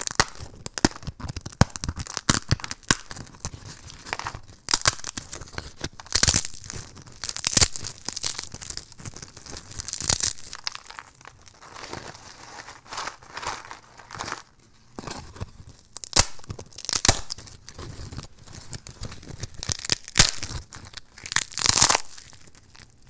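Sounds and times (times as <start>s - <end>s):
dry soap cracking and crunching: 0.0s - 23.0s.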